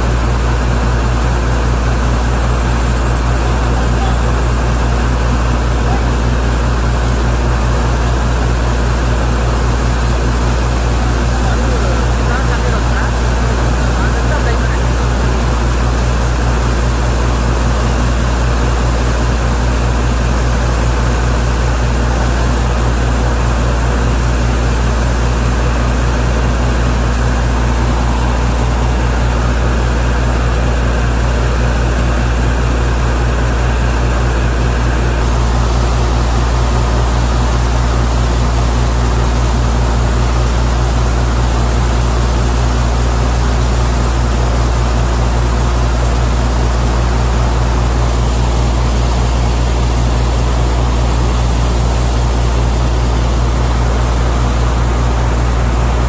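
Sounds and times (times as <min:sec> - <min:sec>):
compressor drone: 0:00.0 - 0:56.0.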